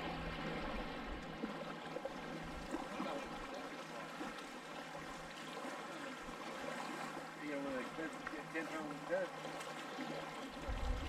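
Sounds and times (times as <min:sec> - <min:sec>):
lake water lapping: 0:00.0 - 0:11.0.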